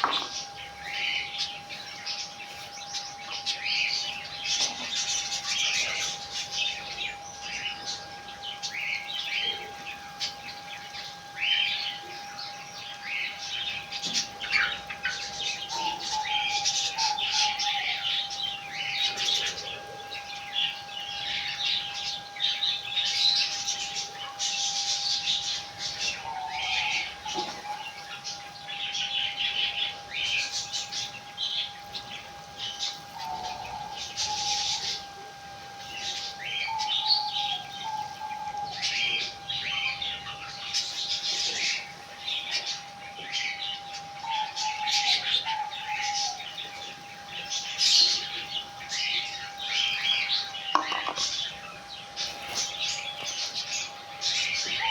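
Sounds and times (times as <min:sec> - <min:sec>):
high-pitched hum: 0:00.0 - 0:54.9
small birds chirping and squawking: 0:00.0 - 0:54.9.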